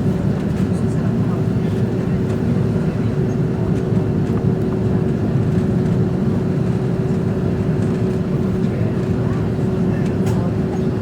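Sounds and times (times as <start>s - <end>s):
constant hum: 0.0s - 11.0s
jet engine cabin rumble: 0.0s - 11.0s.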